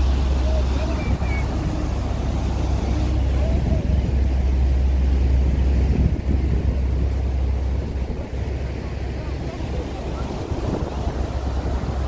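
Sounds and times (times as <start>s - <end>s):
boat engine running: 0.0s - 12.0s
boat wake churning: 0.0s - 12.0s.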